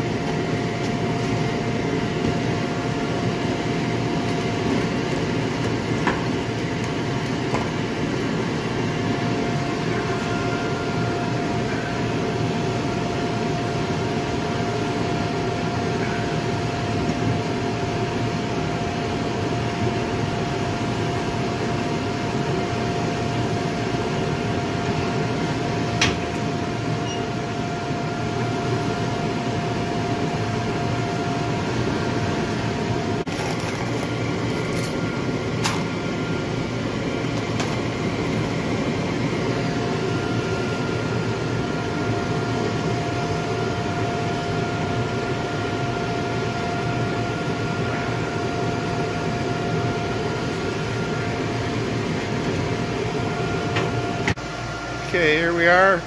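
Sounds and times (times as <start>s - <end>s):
furnace burner rushing and whining: 0.0s - 56.0s.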